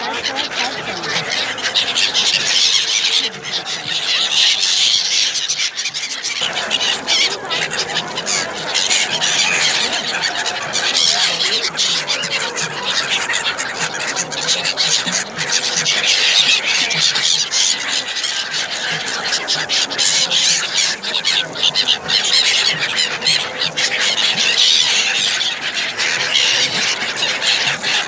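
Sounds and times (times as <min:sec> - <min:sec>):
gulls calling: 0:00.0 - 0:28.0.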